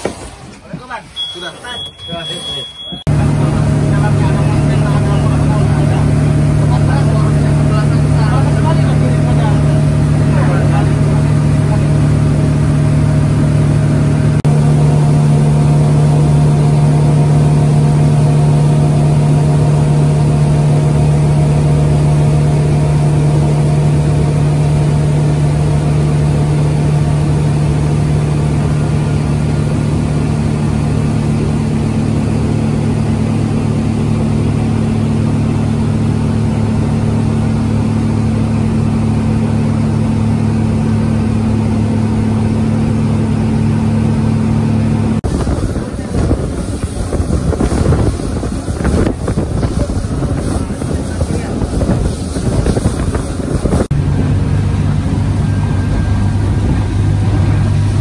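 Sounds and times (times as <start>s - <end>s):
outboard engine droning: 0.0s - 58.0s.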